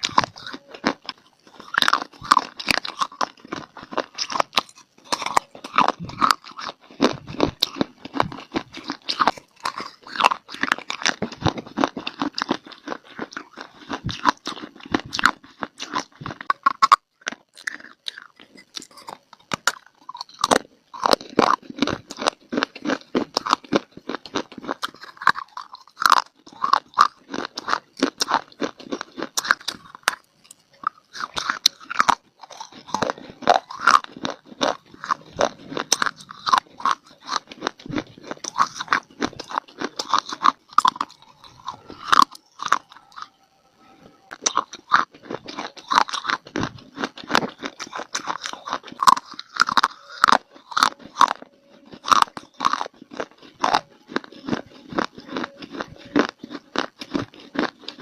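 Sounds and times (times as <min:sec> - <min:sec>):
chewing and crunching clay: 0:00.0 - 0:58.0.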